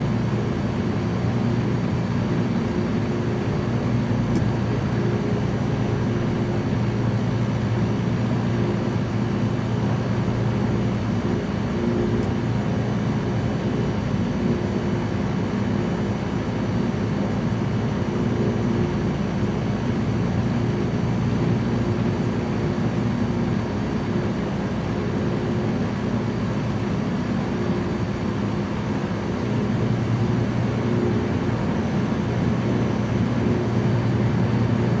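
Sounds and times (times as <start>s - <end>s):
light aircraft engine humming: 0.0s - 35.0s.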